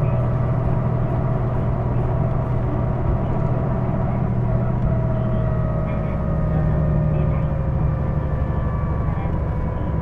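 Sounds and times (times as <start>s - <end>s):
bus engine drone: 0.0s - 10.0s.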